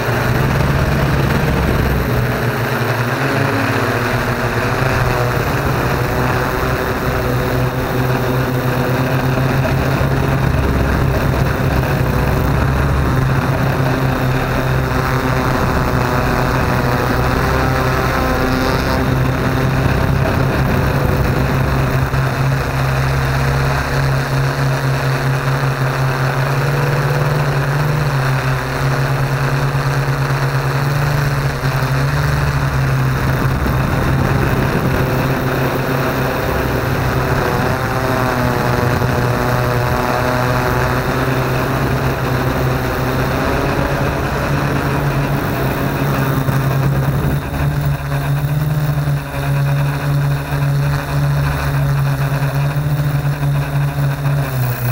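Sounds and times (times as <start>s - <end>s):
drone propellers humming: 0.0s - 54.9s.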